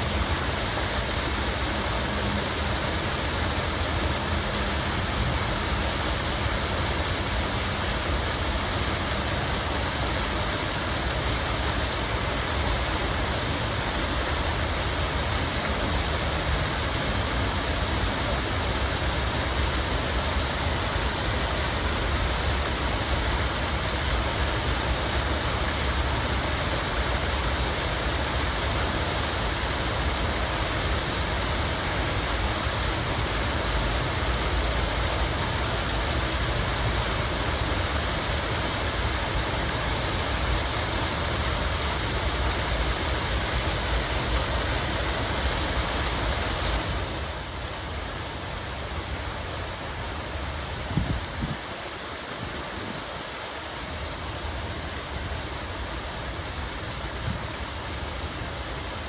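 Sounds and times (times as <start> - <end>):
water falling and splashing: 0.0 - 59.0.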